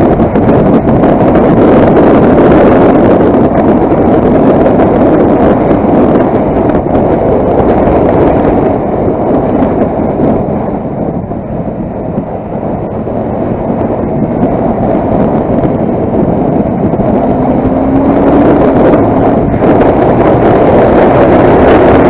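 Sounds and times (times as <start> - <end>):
motorcycle riding with wind rush: 0.0 - 22.0.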